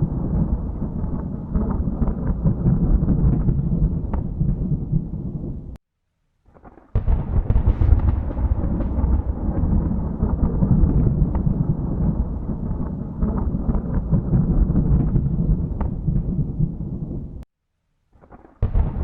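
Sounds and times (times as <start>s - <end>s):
thunder rumbling: 0.0s - 5.8s, 7.0s - 17.4s, 18.6s - 19.0s.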